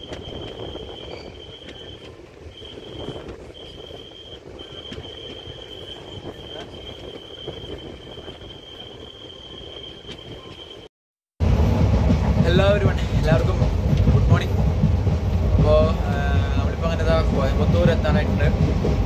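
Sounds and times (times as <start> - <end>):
train rumble from inside coach: 0.0 - 19.0.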